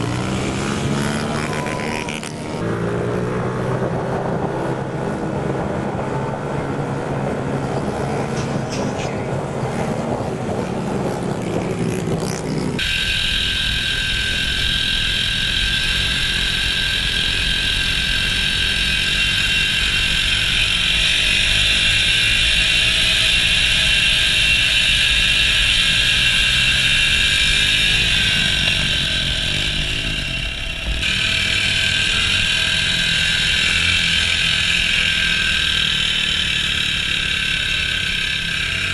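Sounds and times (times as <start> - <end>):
mini bike engines revving: 0.0 - 4.4, 7.1 - 38.9.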